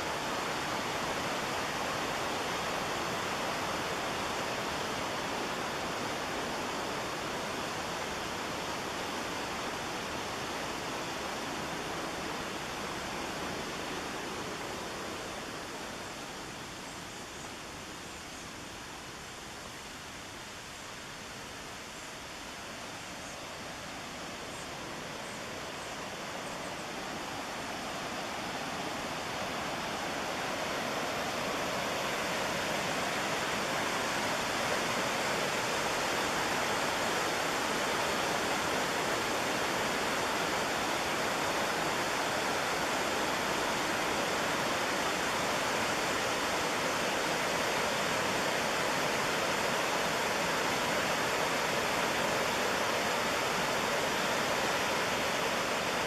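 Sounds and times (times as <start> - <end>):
white water roaring: 0.0 - 56.0.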